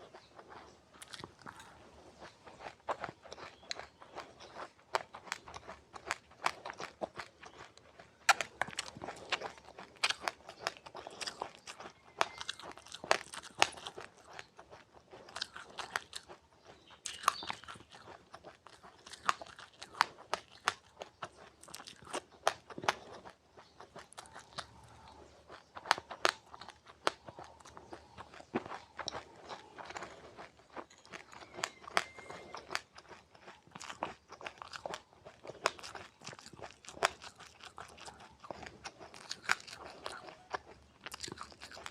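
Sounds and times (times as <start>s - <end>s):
person chewing crunchy seeds: 0.0s - 41.9s.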